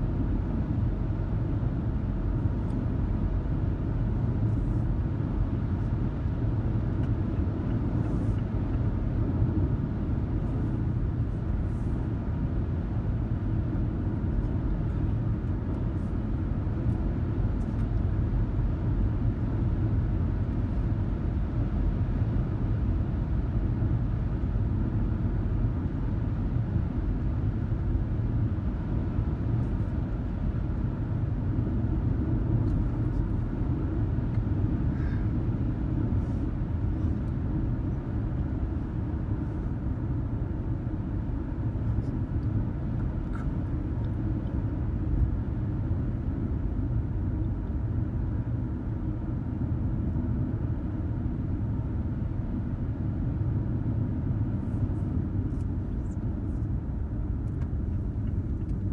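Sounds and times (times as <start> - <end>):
car tyre and road noise: 0.0 - 58.9.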